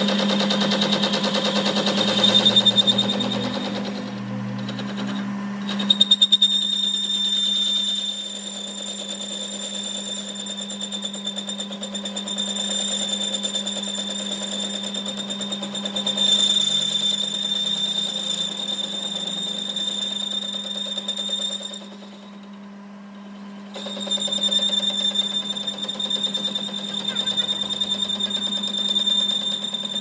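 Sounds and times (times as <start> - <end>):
machinery whining and rattling: 0.0 - 6.8, 12.6 - 30.0.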